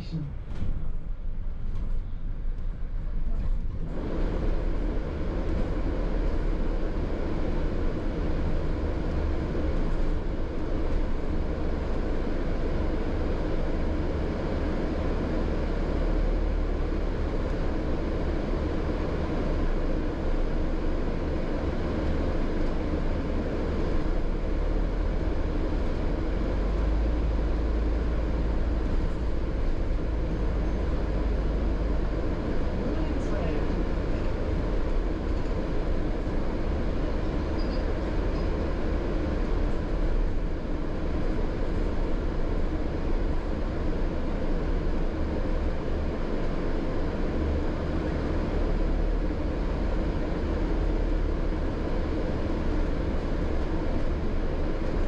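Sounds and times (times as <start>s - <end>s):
bus engine drone: 0.0s - 55.0s
road and body rumble: 0.0s - 55.0s.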